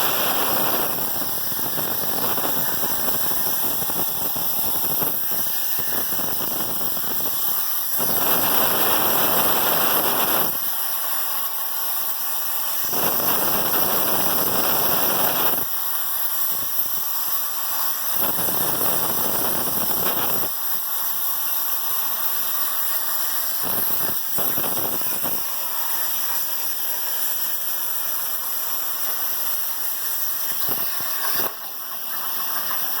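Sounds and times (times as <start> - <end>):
plasma cutter torch hissing: 0.0 - 33.0.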